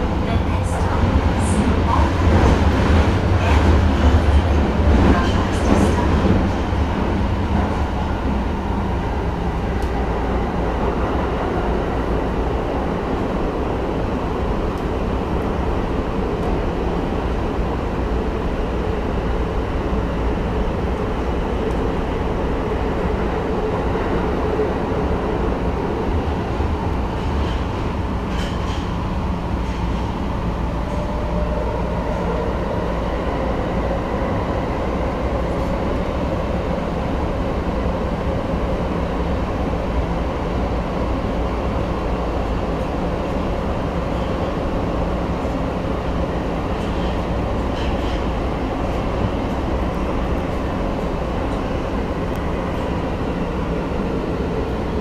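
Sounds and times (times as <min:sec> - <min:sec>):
subway train wheels rumbling: 0:00.0 - 0:55.0.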